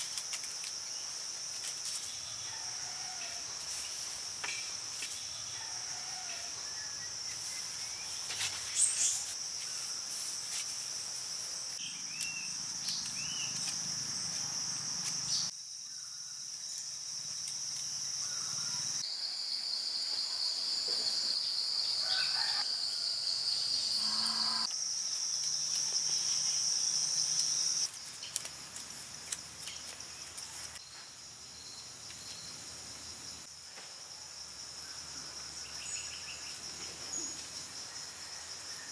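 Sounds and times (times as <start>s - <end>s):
insect chorus drone: 0.0s - 38.9s.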